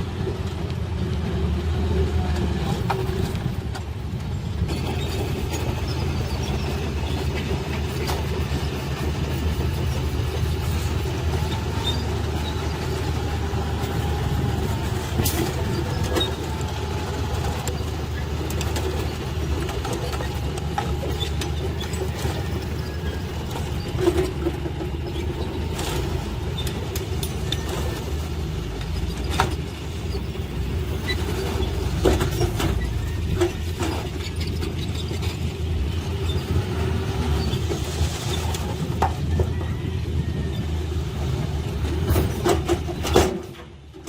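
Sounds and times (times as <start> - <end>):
heavy diesel machinery running: 0.0 - 44.0.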